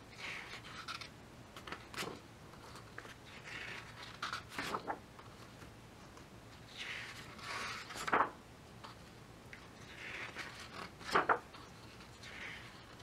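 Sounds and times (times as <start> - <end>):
book pages turning: 0.1 - 9.0, 9.6 - 13.0.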